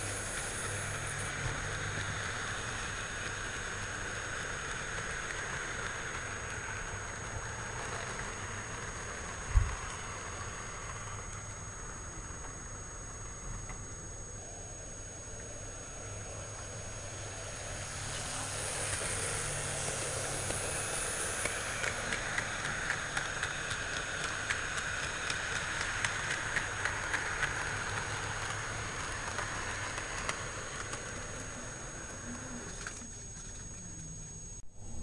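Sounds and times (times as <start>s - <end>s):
wheels clicking over rail joints: 0.0s - 12.6s, 16.4s - 34.0s
model train motors and wheels hum: 0.0s - 35.0s.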